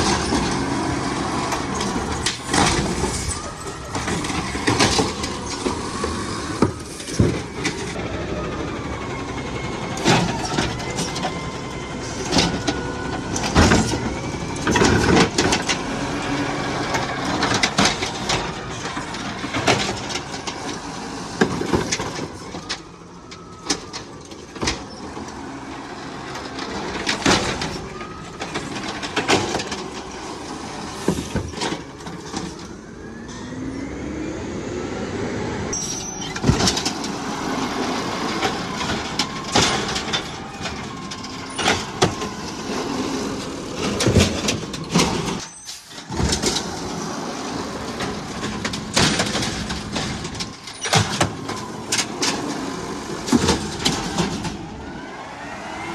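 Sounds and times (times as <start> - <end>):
garbage truck engine and hydraulics: 0.0 - 55.9.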